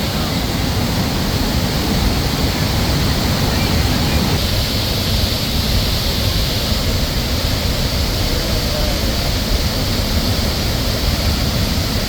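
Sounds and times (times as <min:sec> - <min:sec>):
waterfall rushing loudly: 0:00.0 - 0:12.0.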